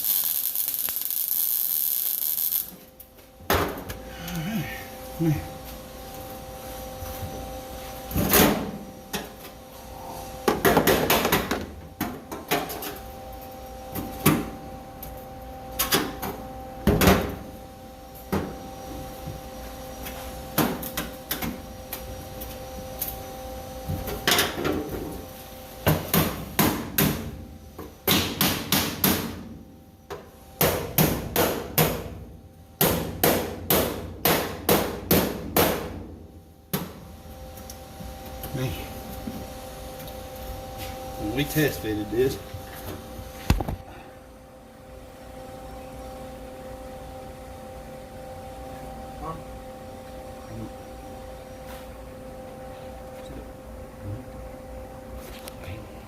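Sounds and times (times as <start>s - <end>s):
faint steady hum: 0.0s - 34.9s, 36.0s - 56.0s.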